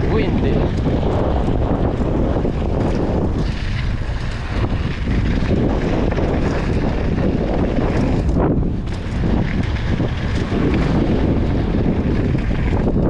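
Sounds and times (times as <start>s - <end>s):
bike rattles: 0.0s - 13.0s
wind buffeting microphone: 0.0s - 13.0s.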